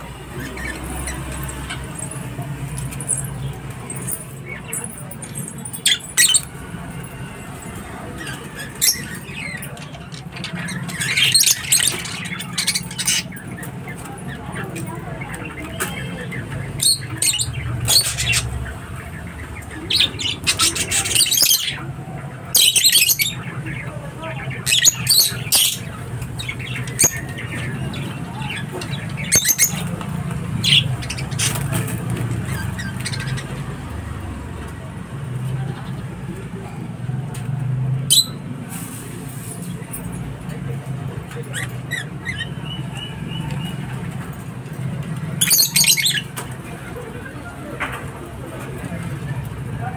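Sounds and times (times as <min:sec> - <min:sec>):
lovebirds chattering: 0:00.0 - 0:49.9.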